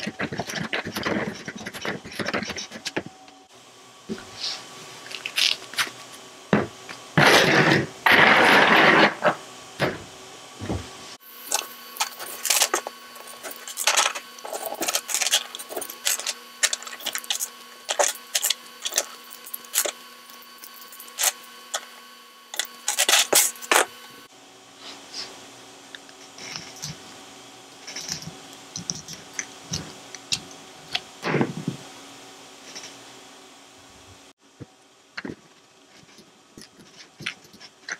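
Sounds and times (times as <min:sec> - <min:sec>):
steady hum: 0:00.0 - 0:37.9.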